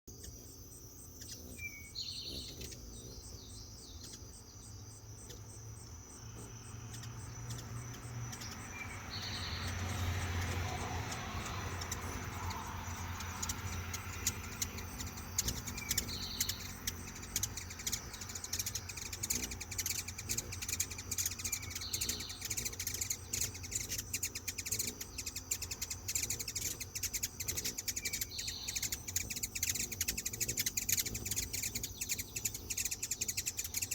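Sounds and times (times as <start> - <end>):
hummingbirds chattering: 0.1 - 33.9.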